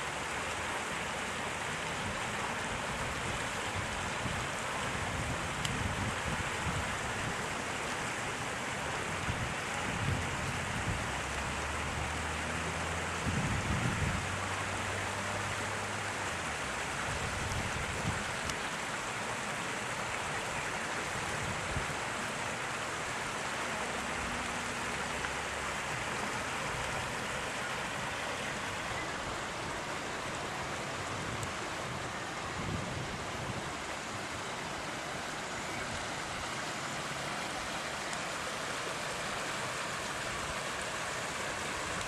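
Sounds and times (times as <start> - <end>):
floodwater rushing: 0.0 - 42.0.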